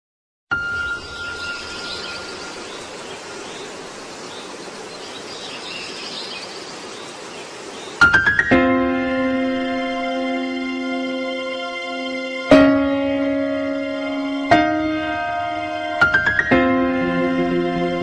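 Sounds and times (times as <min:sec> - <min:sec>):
steady hiss: 0:00.6 - 0:18.0.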